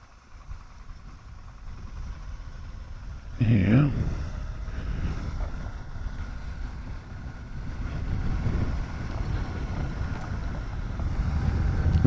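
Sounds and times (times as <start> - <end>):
motorcycle engine rumble: 0.0 - 12.0
wind noise on microphone: 1.0 - 12.0.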